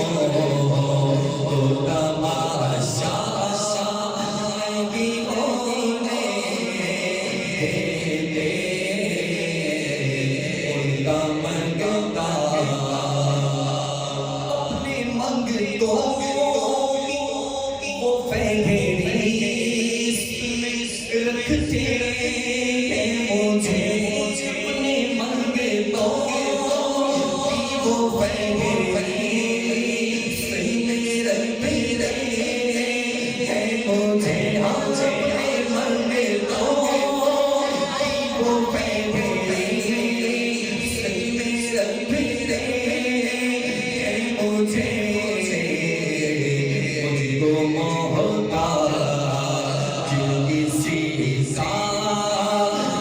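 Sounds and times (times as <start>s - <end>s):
person singing through echoing speakers: 0.0s - 53.0s.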